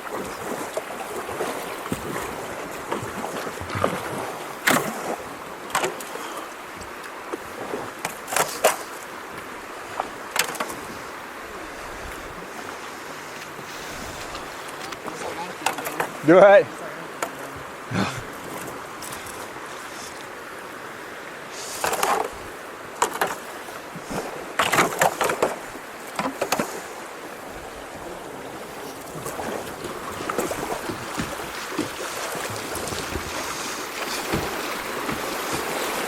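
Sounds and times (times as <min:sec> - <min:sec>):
paddle splashes and knocks: 0:00.0 - 0:36.0
water running over rocks: 0:00.0 - 0:36.0.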